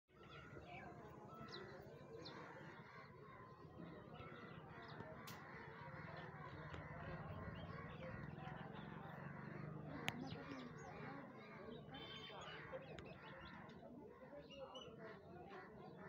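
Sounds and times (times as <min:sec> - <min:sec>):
faint birds chirping: 0:00.1 - 0:16.0.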